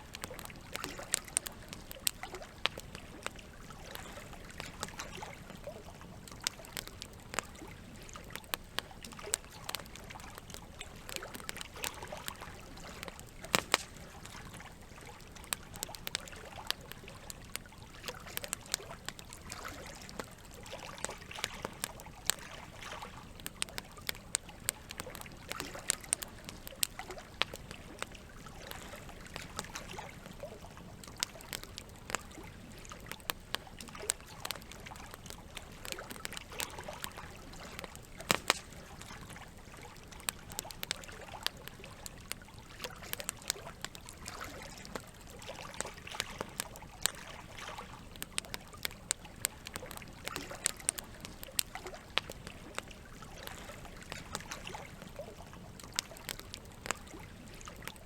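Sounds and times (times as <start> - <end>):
campfire crackling and popping: 0.0 - 58.0
running water trickling: 0.0 - 58.0.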